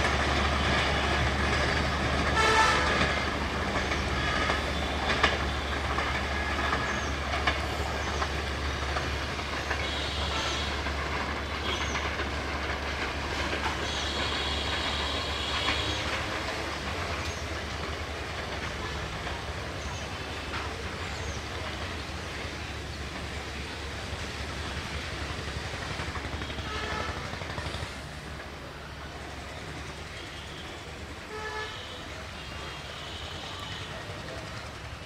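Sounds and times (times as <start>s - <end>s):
train wheels rumbling and clacking: 0.0s - 35.0s.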